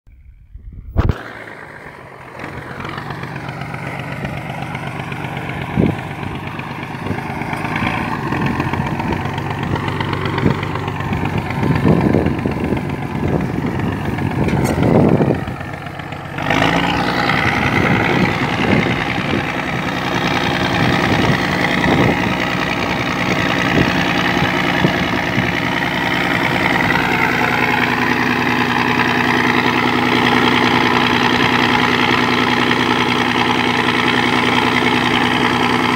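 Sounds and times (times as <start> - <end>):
heavy diesel engine drone: 0.1 - 35.9.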